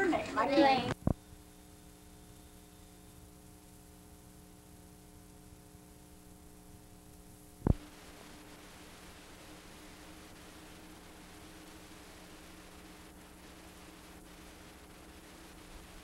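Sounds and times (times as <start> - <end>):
tape hum and hiss: 0.0 - 16.0.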